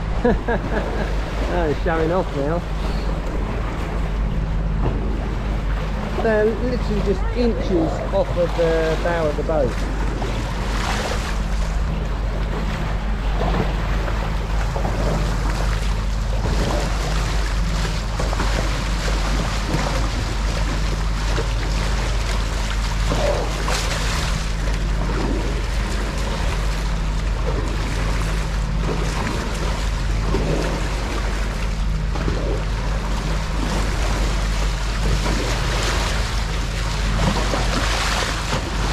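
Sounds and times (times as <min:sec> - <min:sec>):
boat engine running: 0:00.0 - 0:38.9
water rushing along hull: 0:00.0 - 0:38.9.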